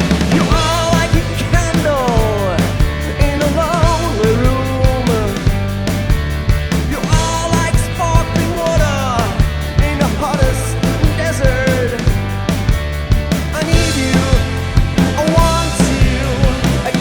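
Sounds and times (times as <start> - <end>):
band playing live: 0.0 - 17.0
drum beat: 0.0 - 17.0
sliding lead line: 0.0 - 17.0.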